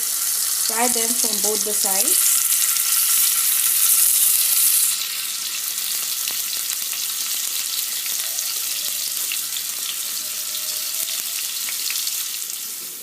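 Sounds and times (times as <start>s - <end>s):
cheese frying in oil: 0.0s - 13.0s.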